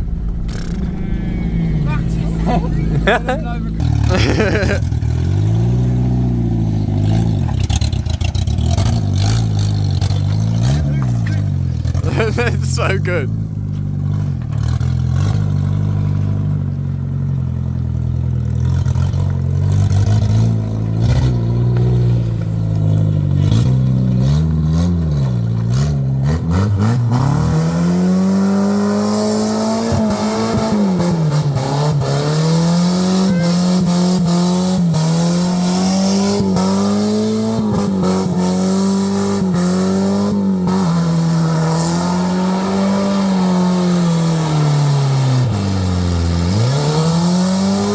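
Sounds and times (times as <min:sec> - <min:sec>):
car engine revving hard: 0:00.0 - 0:16.5, 0:18.6 - 0:47.9.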